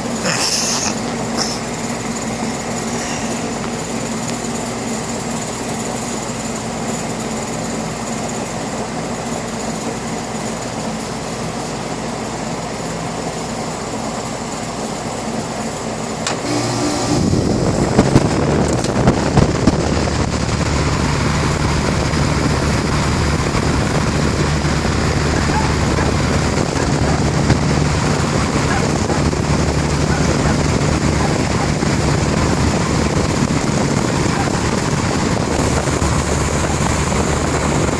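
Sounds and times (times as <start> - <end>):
air conditioner humming: 0.0 - 37.9.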